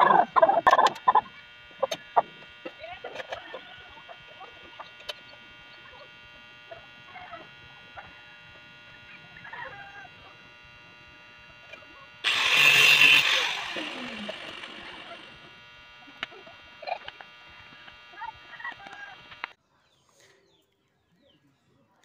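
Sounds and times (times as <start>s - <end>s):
angle grinder running: 0.0s - 19.6s.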